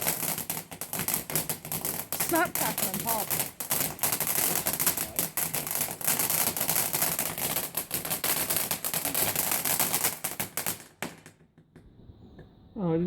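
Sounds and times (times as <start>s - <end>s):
firework crackling: 0.0s - 11.4s.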